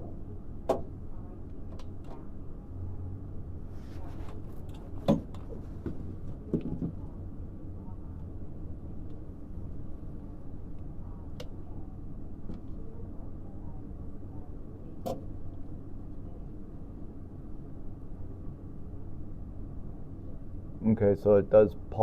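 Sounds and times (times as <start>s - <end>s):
low hum of ventilation unit: 0.0s - 22.0s.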